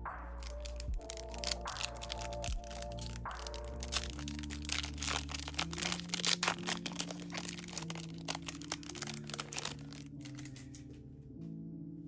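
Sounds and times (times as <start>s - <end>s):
background music held notes: 0.0s - 12.0s
plastic wrapper crinkling: 0.4s - 10.8s.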